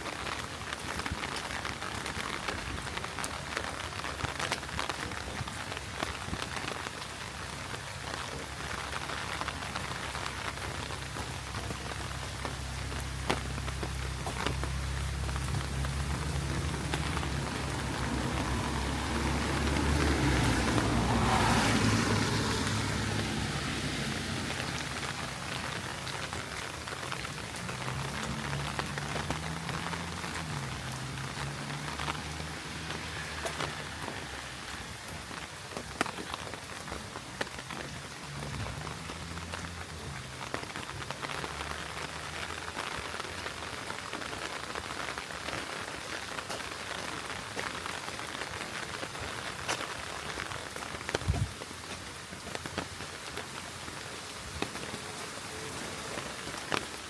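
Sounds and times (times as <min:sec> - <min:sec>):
heavy rain on street: 0:00.0 - 0:57.0
vehicle passing on wet road: 0:00.0 - 0:57.0.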